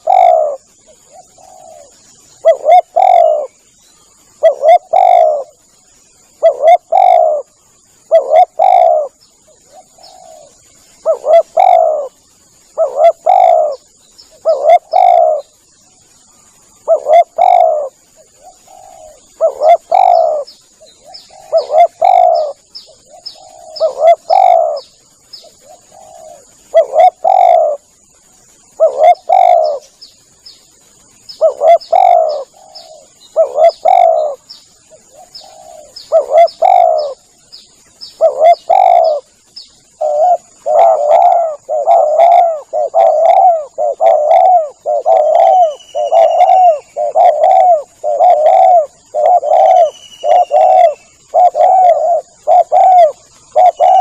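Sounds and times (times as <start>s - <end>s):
dove cooing: 0.0s - 16.0s, 16.7s - 28.0s, 28.7s - 30.0s, 31.3s - 37.3s, 38.0s - 54.0s
faint high chirps: 0.0s - 54.0s
high-pitched whine: 0.0s - 54.0s.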